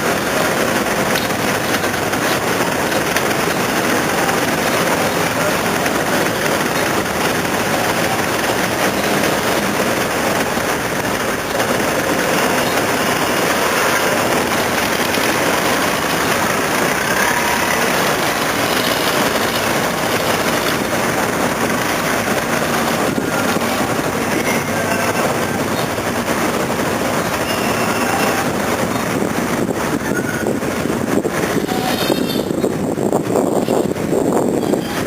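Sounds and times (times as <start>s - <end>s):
vehicle running rumble: 0.0s - 35.0s.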